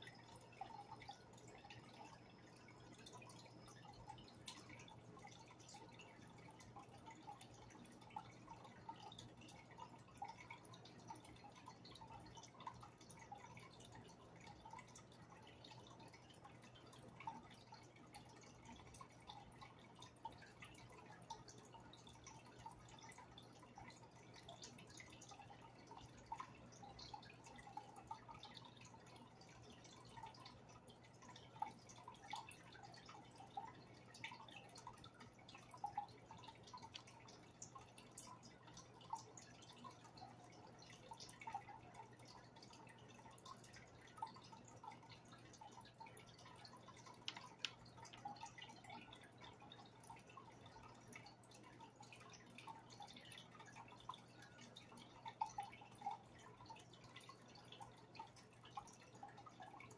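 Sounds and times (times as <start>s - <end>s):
low steady hum: 0.0s - 59.9s
water plinks and bubbling: 0.0s - 59.9s.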